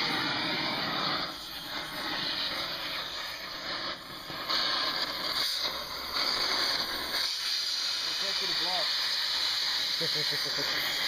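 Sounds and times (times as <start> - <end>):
power tool cutting metal: 0.0 - 11.0.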